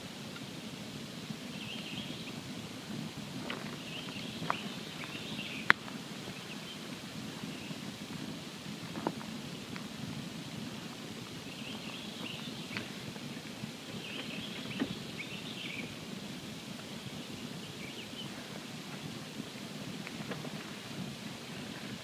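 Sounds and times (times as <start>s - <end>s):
campfire burning: 0.0s - 22.0s
fire pops and crackles: 0.0s - 22.0s
faint high twittering: 1.4s - 8.3s, 10.5s - 22.0s.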